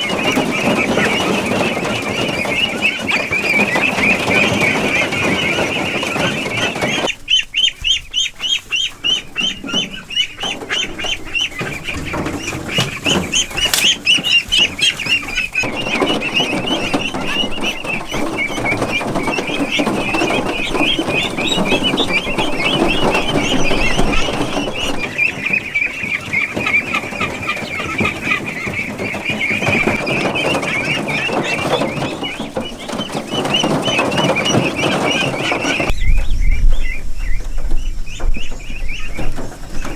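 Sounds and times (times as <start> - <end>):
chickens calling: 0.0 - 39.9.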